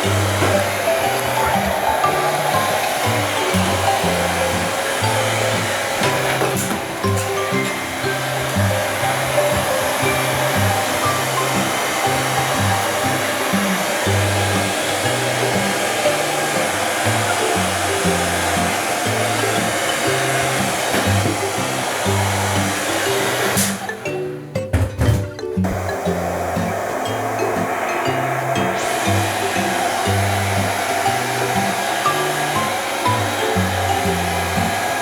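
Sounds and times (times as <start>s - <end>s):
hair dryer blowing: 0.0s - 24.1s, 25.6s - 35.0s
background music: 0.0s - 35.0s.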